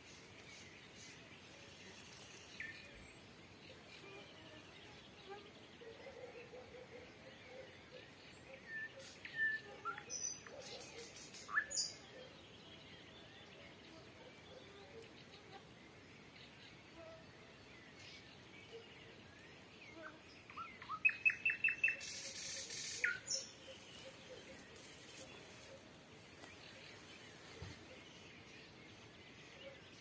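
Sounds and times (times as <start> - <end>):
faint distant birdsong: 0.0 - 30.0
nightingale song: 0.0 - 30.0.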